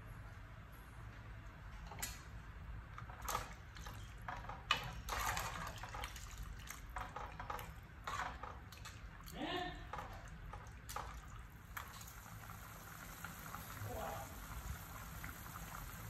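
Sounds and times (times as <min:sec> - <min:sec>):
broth sloshing in a pot: 0:02.9 - 0:16.0.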